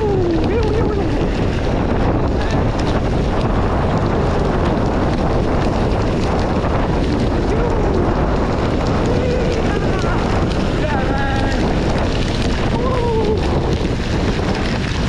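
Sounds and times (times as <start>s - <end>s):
bike rattling and clicking: 0.0s - 15.0s
wind buffeting microphone: 0.0s - 15.0s.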